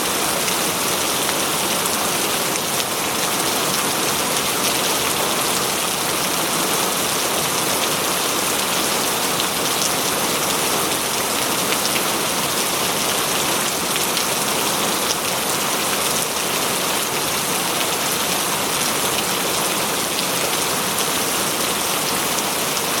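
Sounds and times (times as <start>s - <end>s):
rain pattering on leaves: 0.1s - 23.0s.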